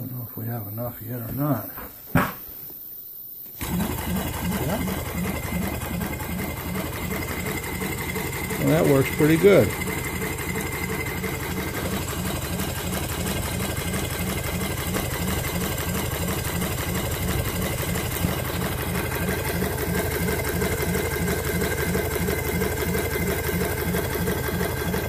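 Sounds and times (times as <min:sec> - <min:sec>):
model steam engine running: 0:03.6 - 0:25.0.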